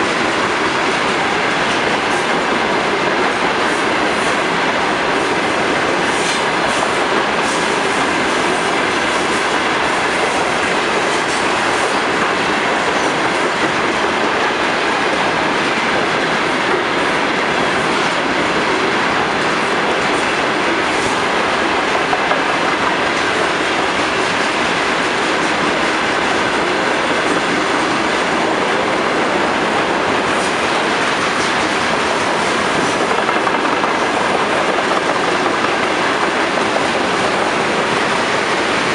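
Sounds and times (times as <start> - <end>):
steel train wheels on rails: 0.0 - 38.9.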